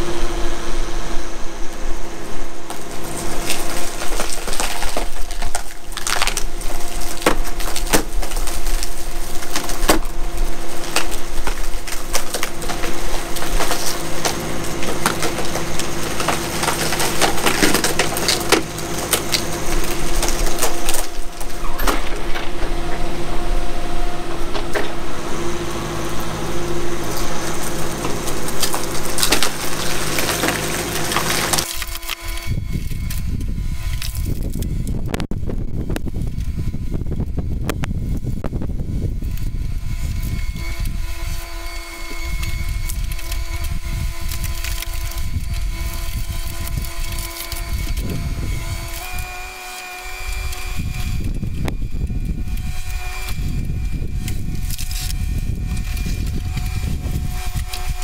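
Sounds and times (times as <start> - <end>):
excavator engine running: 0.0 - 58.0
wood cracking and splintering: 2.6 - 35.2, 37.7 - 58.0.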